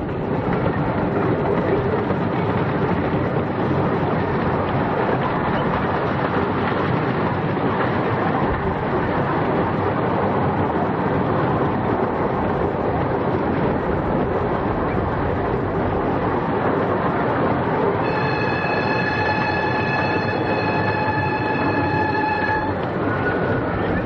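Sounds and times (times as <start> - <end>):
miniature train running on track: 0.0 - 24.0.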